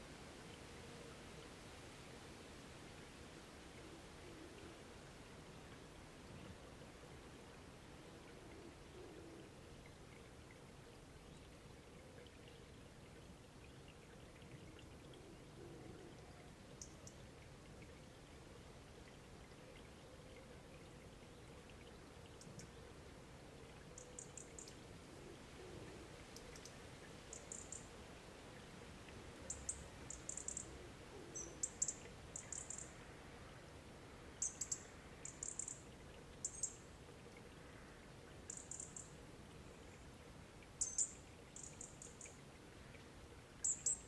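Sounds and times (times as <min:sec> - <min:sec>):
outdoor background hiss: 0:00.0 - 0:44.0.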